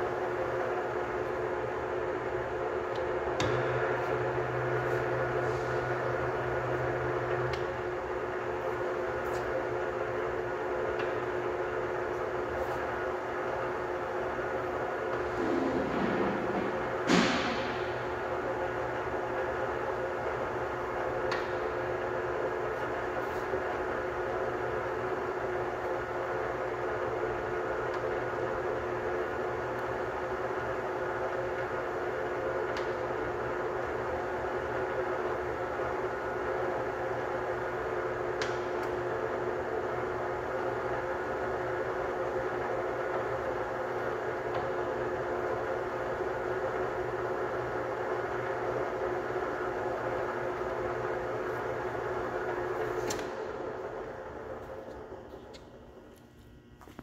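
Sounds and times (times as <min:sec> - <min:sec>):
lathe motor humming: 0:00.0 - 0:56.2.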